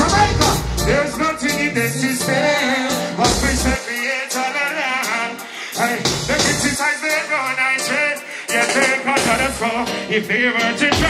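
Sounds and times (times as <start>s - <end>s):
live reggae band with vocals: 0.0s - 11.0s.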